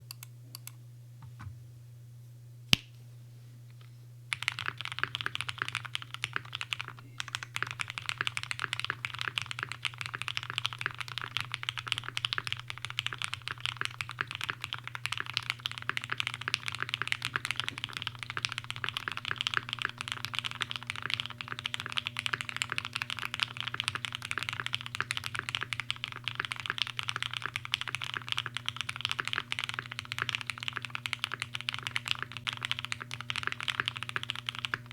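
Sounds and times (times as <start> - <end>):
typing on mechanical keyboard: 4.3 - 34.9.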